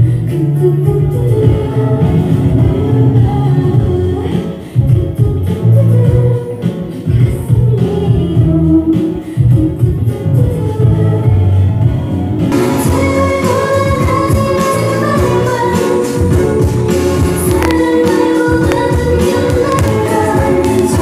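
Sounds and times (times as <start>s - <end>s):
pop song with singing: 0.0s - 21.0s.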